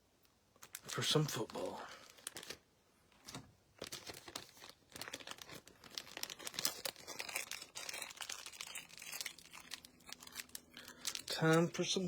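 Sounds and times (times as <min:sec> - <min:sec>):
wrapper crinkling and tearing: 0:00.6 - 0:12.0.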